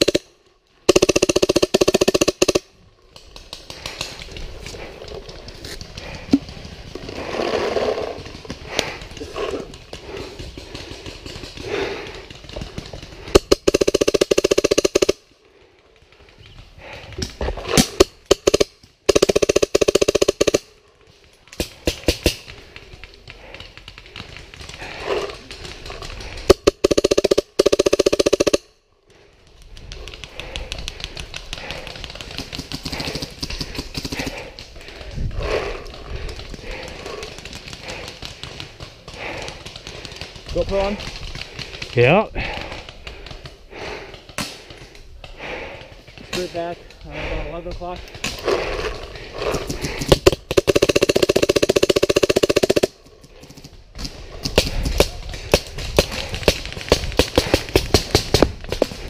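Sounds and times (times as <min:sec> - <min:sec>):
paintball markers firing: 0:00.0 - 0:59.0.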